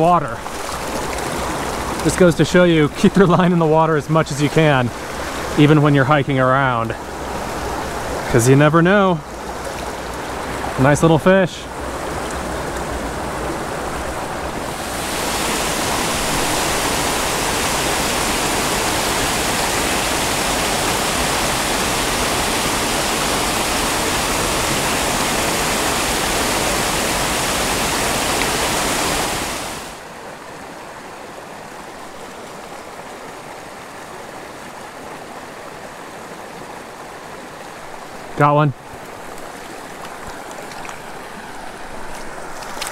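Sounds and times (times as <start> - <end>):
creek water flowing: 0.0 - 42.9.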